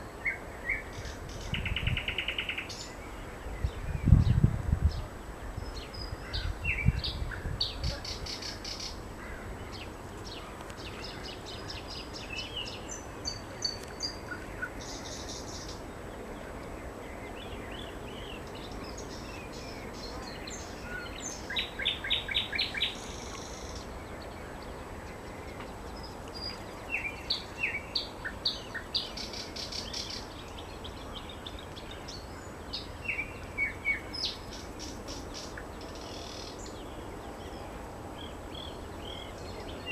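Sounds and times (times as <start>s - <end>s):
nightingale singing: 0.0s - 4.4s, 9.7s - 39.9s.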